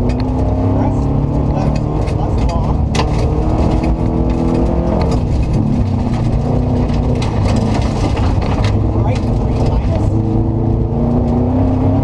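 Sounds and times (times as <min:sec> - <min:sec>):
rally car engine revving: 0:00.0 - 0:12.0
gravel striking car: 0:01.3 - 0:11.4.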